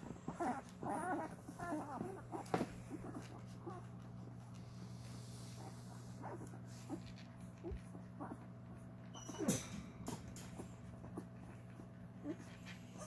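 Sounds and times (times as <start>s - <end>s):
puppies squeaking and whimpering: 0.0s - 4.4s, 5.5s - 13.0s
low steady hum: 0.0s - 13.0s
puppy whining: 0.0s - 13.0s.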